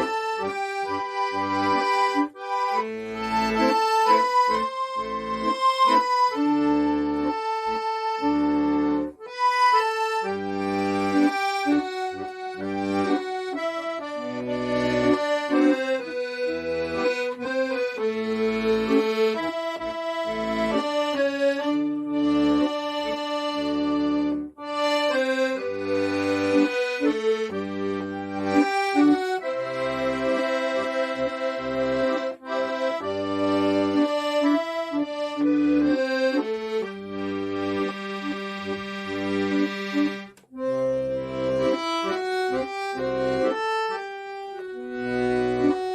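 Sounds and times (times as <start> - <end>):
accordion playing a melody: 0.0 - 45.9.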